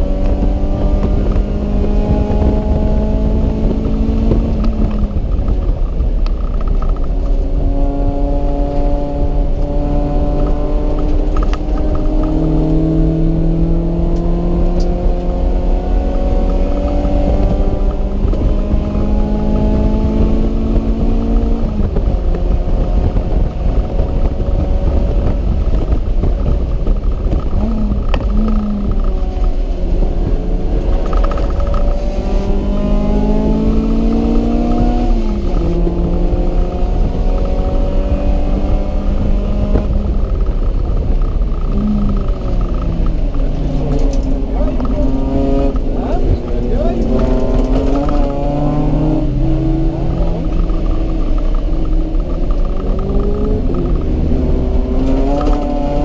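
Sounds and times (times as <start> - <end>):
car engine revving under load: 0.0 - 56.0
wind and road rumble: 0.0 - 56.0.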